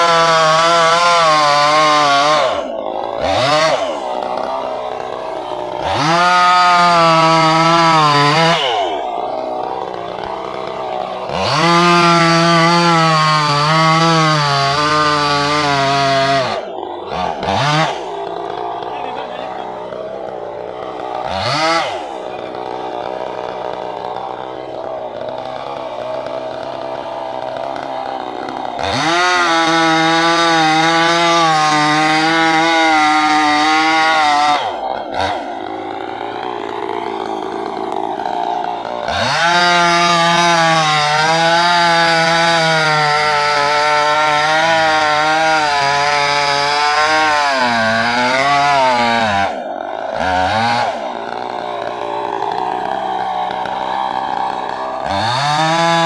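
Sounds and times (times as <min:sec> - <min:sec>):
chainsaw cutting wood: 0:00.0 - 0:56.0
chainsaw idling: 0:00.0 - 0:56.0.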